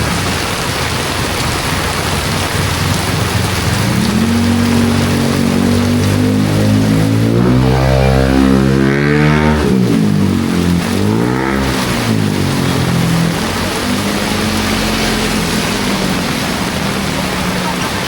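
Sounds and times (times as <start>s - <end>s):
heavy rain hiss: 0.0s - 18.0s
vehicle engine driving past: 3.4s - 18.0s.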